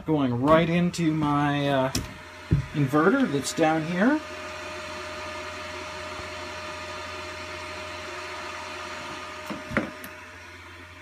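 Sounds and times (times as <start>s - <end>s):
power inverter whirring: 0.0s - 11.0s.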